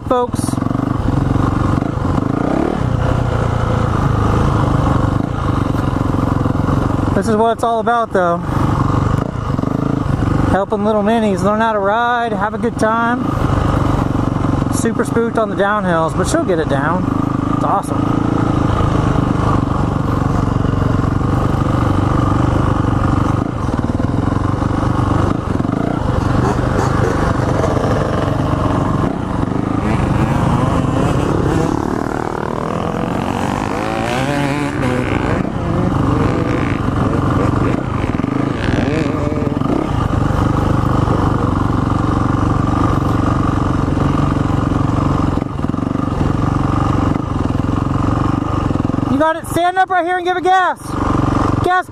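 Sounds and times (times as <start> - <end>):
dirt bike engine idling: 0.0 - 51.9.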